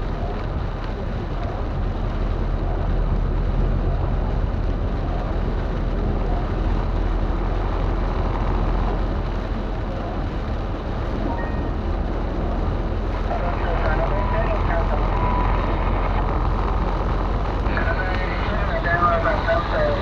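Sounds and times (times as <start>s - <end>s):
car engine and tyres on wet road: 0.0s - 20.0s
rain hiss: 0.0s - 20.0s.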